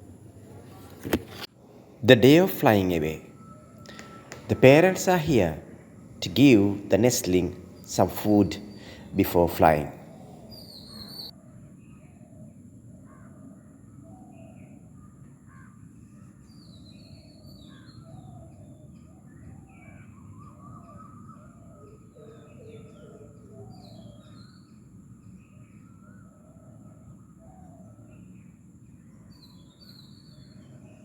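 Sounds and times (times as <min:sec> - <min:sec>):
birds calling: 0:00.0 - 0:11.4, 0:12.0 - 0:31.0.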